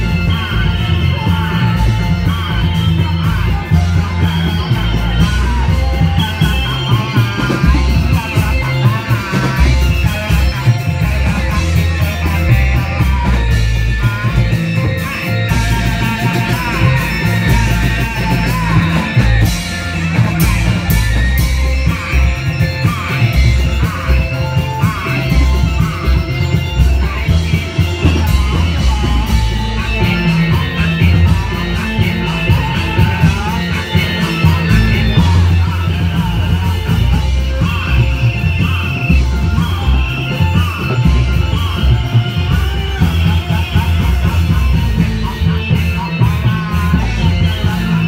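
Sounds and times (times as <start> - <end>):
person singing wavering melody: 0.0 - 48.0.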